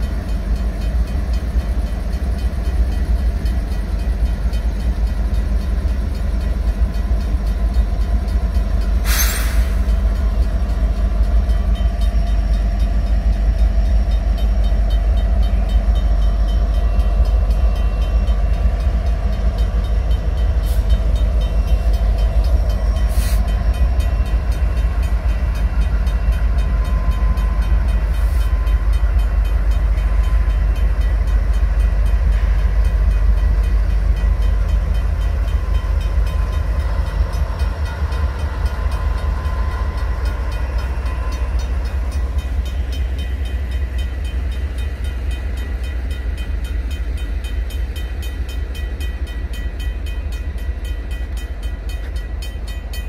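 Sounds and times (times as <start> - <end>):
diesel locomotives passing slowly: 0.0 - 53.0.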